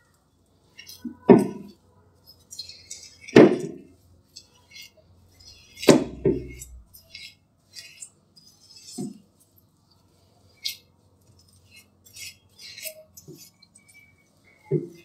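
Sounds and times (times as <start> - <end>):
spatula scraping glass bowl: 0.6 - 9.6, 10.3 - 15.0.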